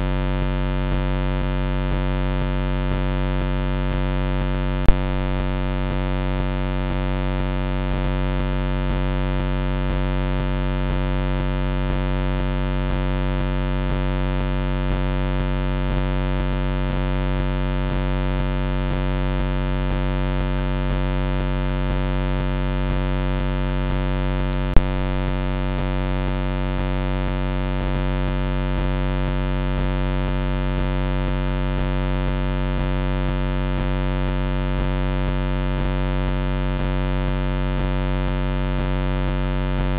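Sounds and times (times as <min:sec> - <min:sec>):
steady electrical buzz: 0:00.0 - 0:37.1.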